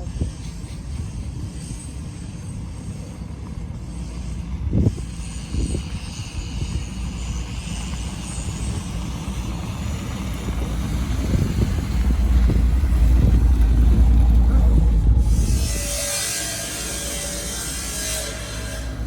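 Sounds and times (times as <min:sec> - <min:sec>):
truck engine rumbling: 0:02.6 - 0:19.0.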